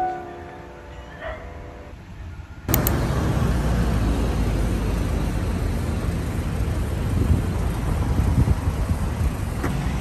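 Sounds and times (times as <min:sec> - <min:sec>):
passing road traffic: 0:00.0 - 0:10.0.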